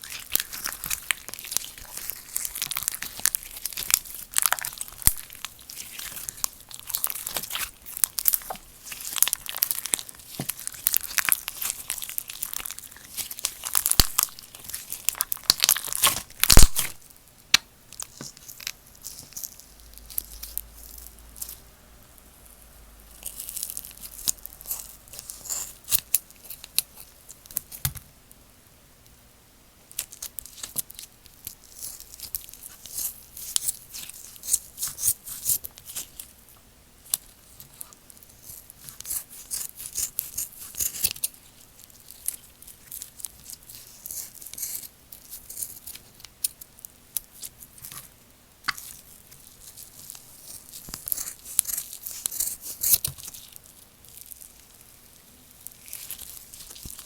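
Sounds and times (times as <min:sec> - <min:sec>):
slime squishing with crackly pops: 0:00.0 - 0:21.6, 0:23.1 - 0:28.0, 0:29.9 - 0:57.0.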